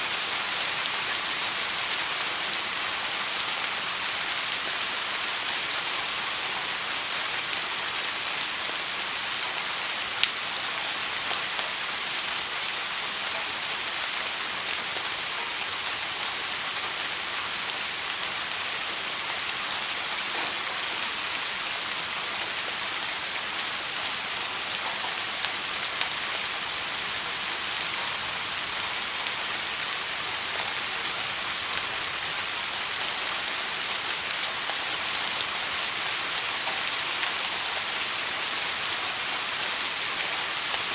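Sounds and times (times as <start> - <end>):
soft rain hiss: 0.0 - 40.9.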